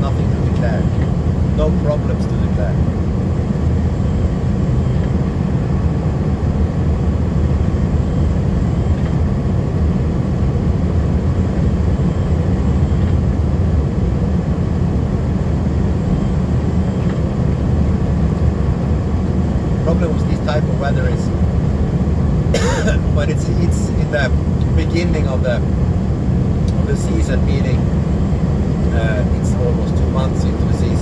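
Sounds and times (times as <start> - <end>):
truck engine and road noise: 0.0 - 31.0.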